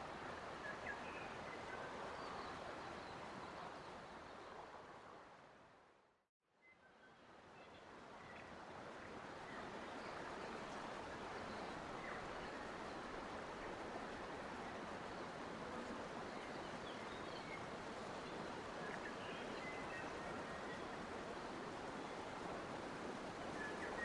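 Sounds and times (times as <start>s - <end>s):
flowing water: 0.0s - 5.9s, 7.2s - 24.0s.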